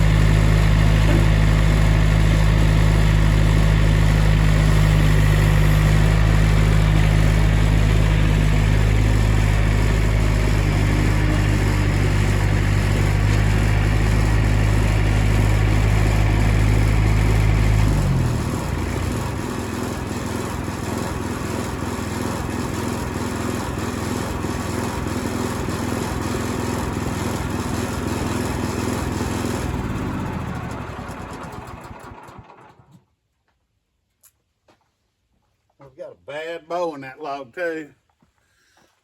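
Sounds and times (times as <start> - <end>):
sawmill gasoline engine running: 0.0 - 33.0.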